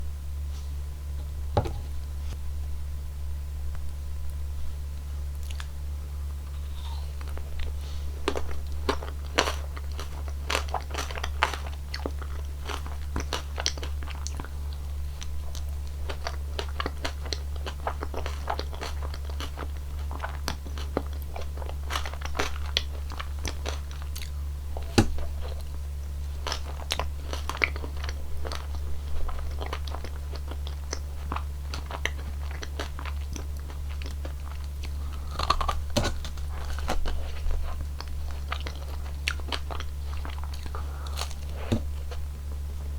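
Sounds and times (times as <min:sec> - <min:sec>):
steady low hum: 0:00.0 - 0:42.9
crunching and chewing ice cream cone: 0:05.3 - 0:42.9.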